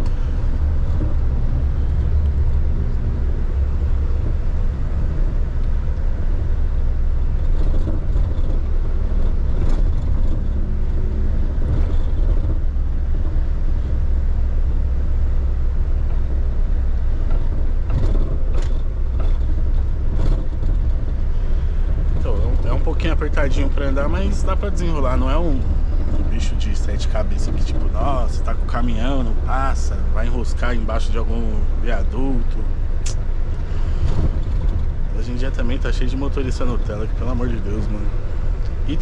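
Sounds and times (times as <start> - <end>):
truck engine rumble from cab: 0.0 - 39.0.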